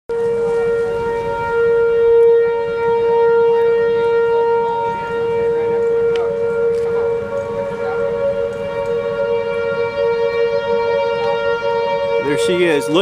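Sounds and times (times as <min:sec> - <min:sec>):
warning siren steady tone: 0:00.1 - 0:13.0.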